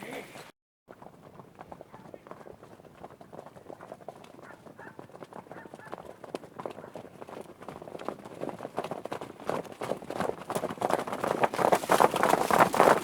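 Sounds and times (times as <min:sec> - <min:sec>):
horses galloping: 0:00.0 - 0:13.0.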